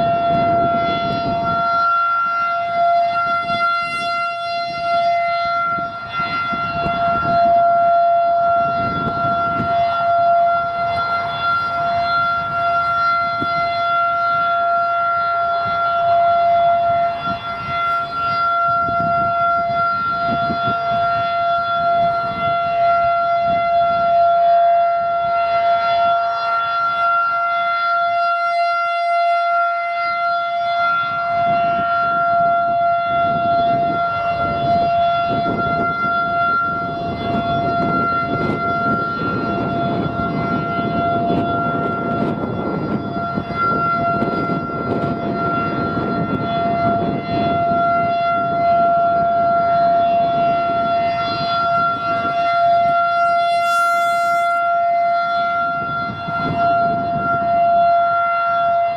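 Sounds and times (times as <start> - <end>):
warning siren steady tone: 0.0 - 58.9.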